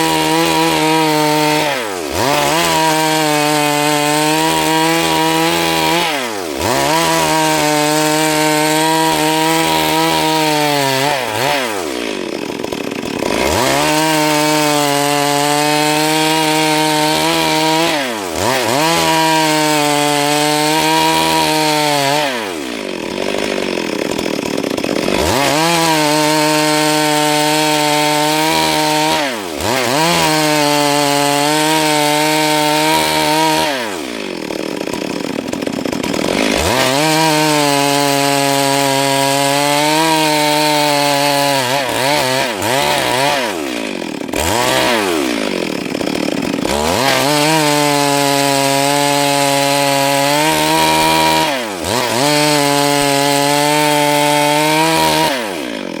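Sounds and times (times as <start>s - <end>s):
chainsaw ripping wood: 0.0s - 56.0s.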